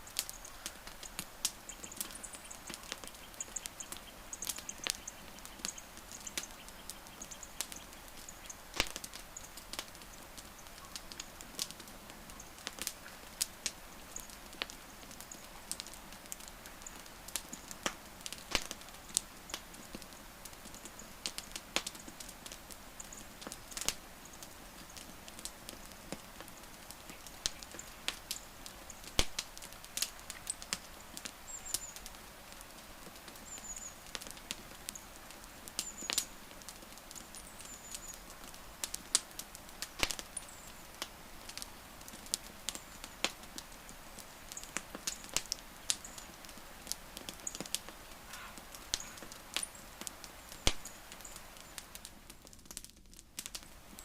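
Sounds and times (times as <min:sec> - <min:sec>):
steady fire hiss: 0:00.0 - 0:54.0
wood fire crackling: 0:00.0 - 0:54.0.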